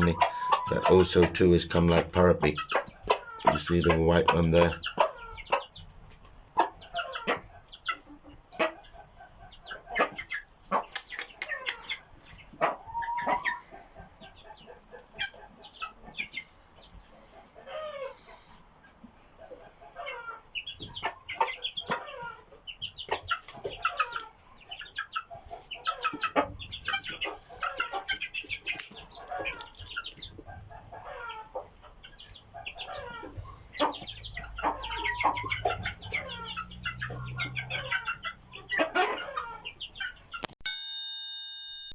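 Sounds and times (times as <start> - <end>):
chicks peeping: 0.0 - 40.6
clucking calls: 0.0 - 40.6.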